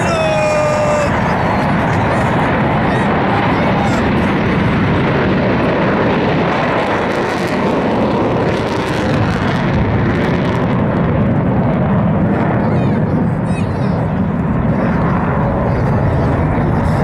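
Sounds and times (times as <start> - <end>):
fighter jet engine noise: 0.0 - 17.0.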